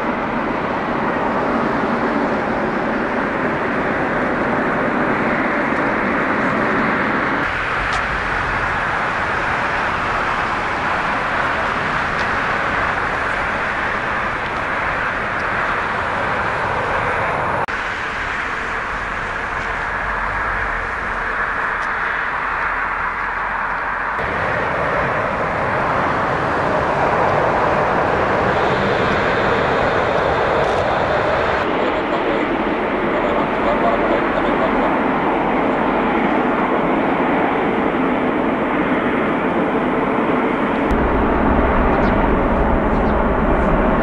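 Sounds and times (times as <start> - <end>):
jet airliner engine noise: 0.0 - 44.0.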